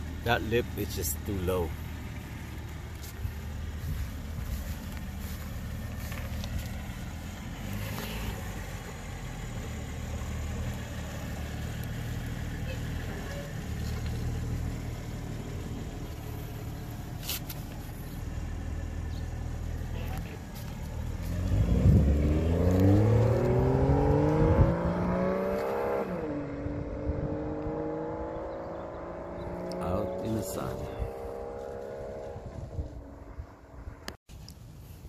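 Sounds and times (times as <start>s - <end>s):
car engine idling and accelerating: 0.0s - 35.0s.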